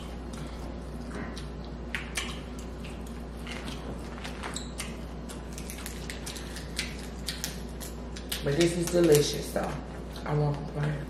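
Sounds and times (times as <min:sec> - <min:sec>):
wet chewing: 0:00.0 - 0:09.3.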